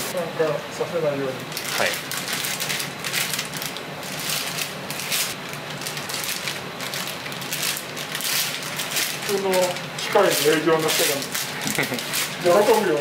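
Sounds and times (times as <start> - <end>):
plastic bags crinkling: 1.5 - 13.0.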